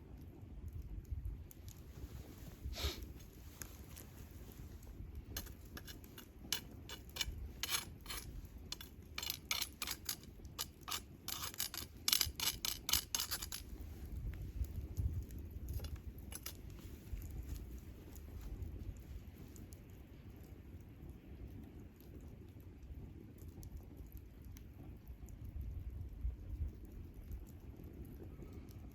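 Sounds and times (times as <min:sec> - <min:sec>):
campfire crackling and popping: 0:00.0 - 0:28.9
low rumble of burning fire: 0:00.0 - 0:28.9.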